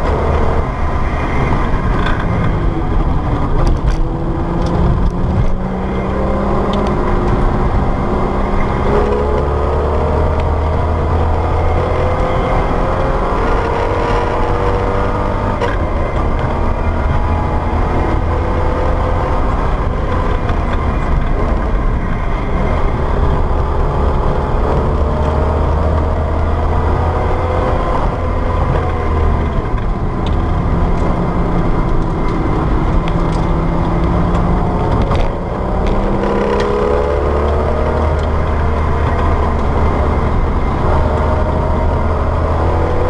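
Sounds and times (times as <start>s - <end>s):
car engine at speed: 0.0s - 43.0s
wind and road noise: 0.0s - 43.0s.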